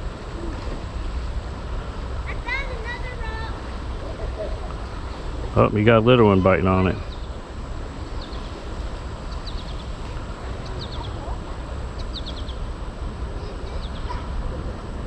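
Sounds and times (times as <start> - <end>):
low outdoor rush: 0.0 - 15.0
small bird calling: 2.3 - 14.4.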